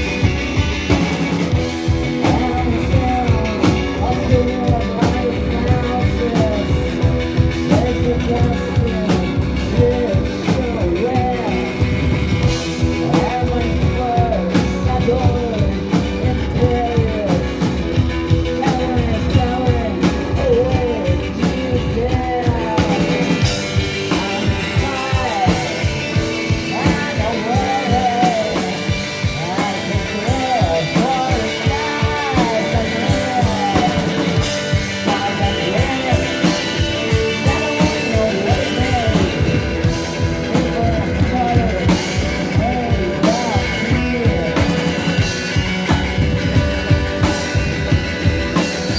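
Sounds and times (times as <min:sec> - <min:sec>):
bass guitar: 0:00.0 - 0:48.9
drums: 0:00.0 - 0:48.9
electric guitar: 0:00.0 - 0:48.9
person singing: 0:00.0 - 0:48.9.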